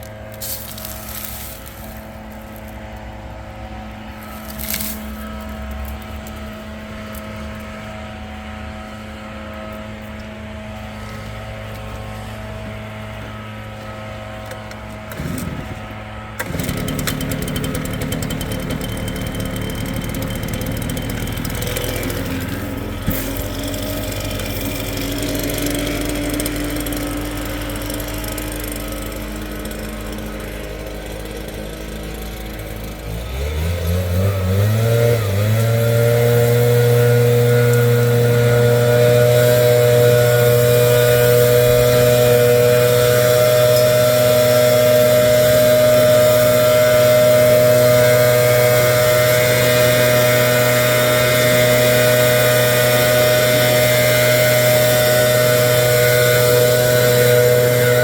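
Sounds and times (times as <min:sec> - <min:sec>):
leaf blower engine running: 0:00.0 - 0:58.0.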